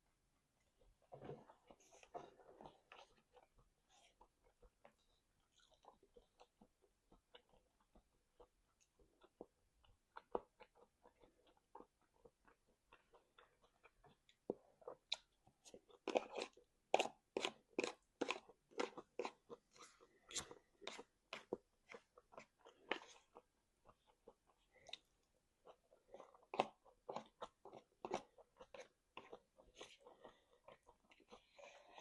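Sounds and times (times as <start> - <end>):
person chewing crunchy food: 1.4 - 32.0.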